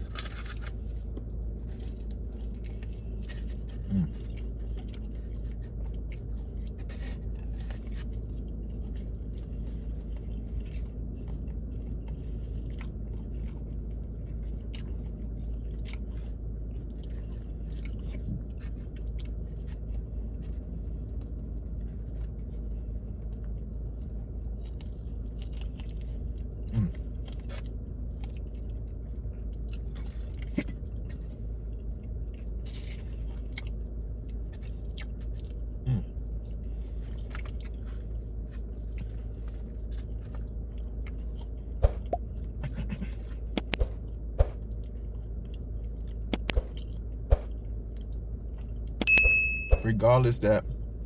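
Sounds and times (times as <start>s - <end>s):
person chewing food: 0.0s - 49.1s
steady low hum: 0.0s - 51.0s.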